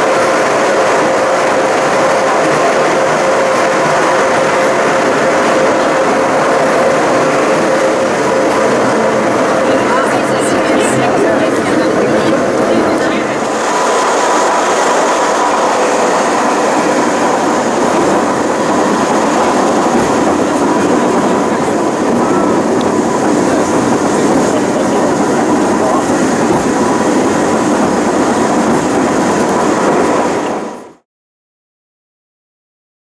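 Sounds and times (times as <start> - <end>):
faint whine: 0.0 - 30.8
railcar rumbling and rattling: 0.0 - 31.0.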